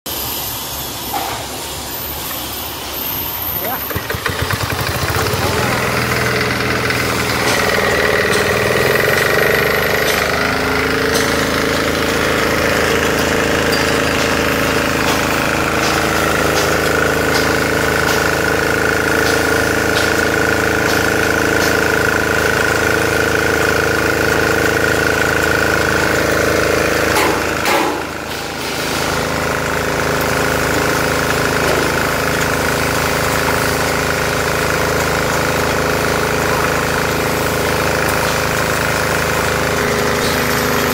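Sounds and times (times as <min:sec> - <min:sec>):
small diesel engine running: 0:01.1 - 0:40.9
brief machine clatter: 0:03.6 - 0:40.9.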